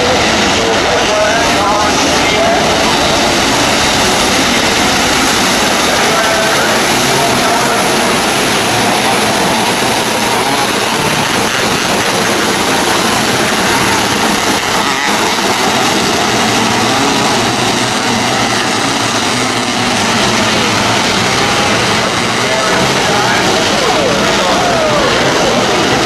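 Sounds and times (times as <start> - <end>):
sprint car engines racing: 0.0 - 26.0.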